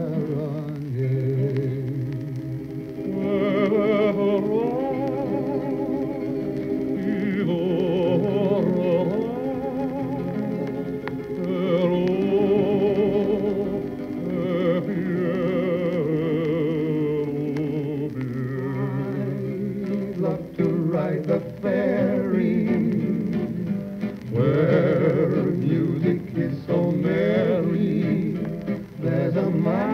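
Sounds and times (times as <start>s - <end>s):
male vocal duet singing: 0.0s - 2.4s, 3.0s - 6.4s, 7.0s - 23.7s, 24.3s - 29.9s
guitars playing: 0.0s - 29.9s
record surface clicks: 0.0s - 29.9s.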